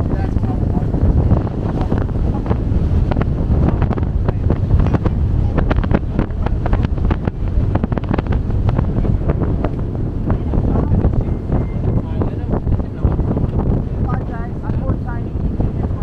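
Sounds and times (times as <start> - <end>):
low rumble of boat: 0.0 - 16.0
water: 0.0 - 16.0
wind buffeting microphone: 0.0 - 16.0.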